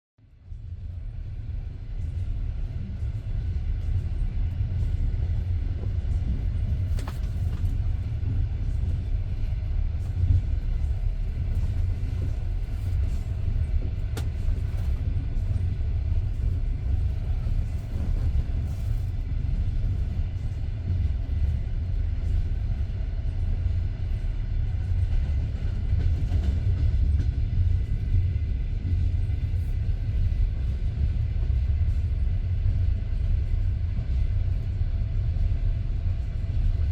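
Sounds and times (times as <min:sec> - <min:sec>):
train wheels rumbling: 0:00.5 - 0:36.9.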